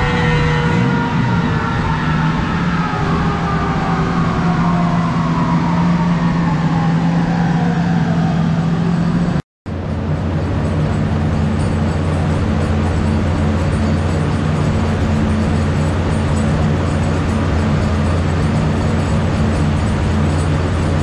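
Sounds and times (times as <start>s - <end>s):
engine and dyno rollers whine: 0.0s - 21.0s
engine running steadily: 0.0s - 21.0s.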